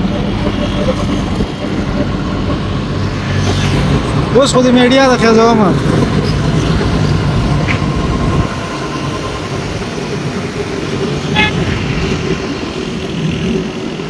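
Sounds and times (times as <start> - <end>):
heavy vehicle engine running: 0.0 - 14.0.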